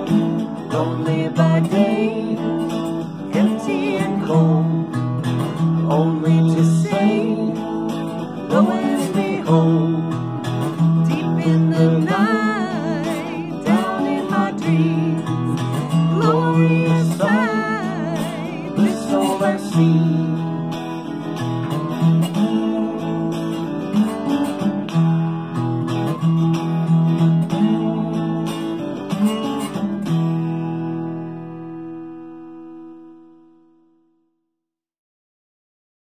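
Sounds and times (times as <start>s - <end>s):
resonator slide guitar: 0.0s - 33.2s
blues electric guitar: 0.0s - 33.8s.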